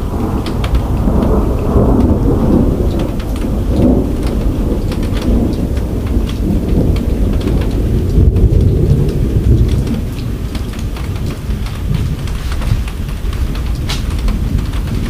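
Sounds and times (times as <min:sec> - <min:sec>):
heavy rain: 0:00.0 - 0:15.0
raindrops ticking: 0:00.0 - 0:15.0
thunder rumbling: 0:00.0 - 0:15.0.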